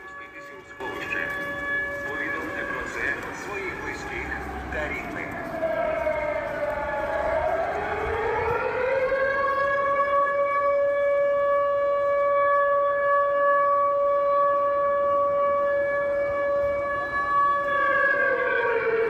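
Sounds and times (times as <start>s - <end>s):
air-raid siren: 0.0s - 19.0s.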